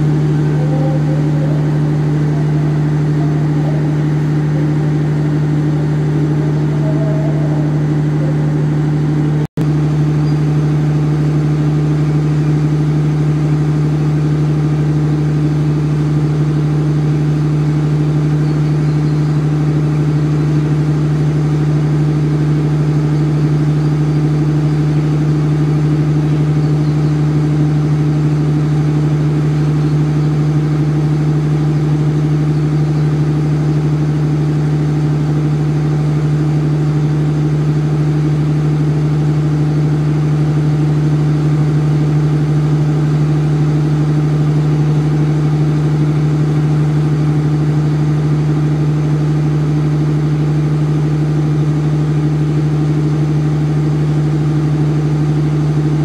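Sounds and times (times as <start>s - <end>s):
diesel generator low drone: 0.0s - 56.0s.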